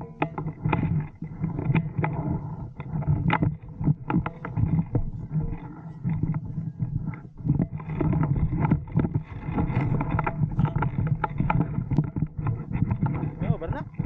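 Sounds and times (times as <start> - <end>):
knocks and rustles of gear: 0.0 - 14.0
wind buffeting microphone: 0.0 - 14.0.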